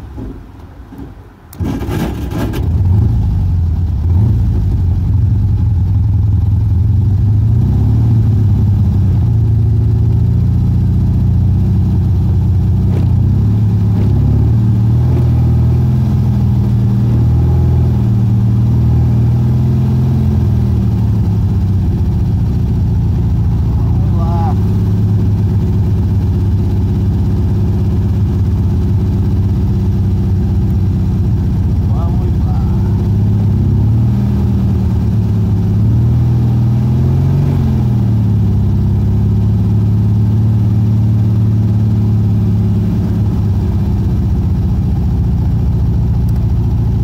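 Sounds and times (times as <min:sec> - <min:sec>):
car engine starting and idling: 0:00.0 - 0:47.0.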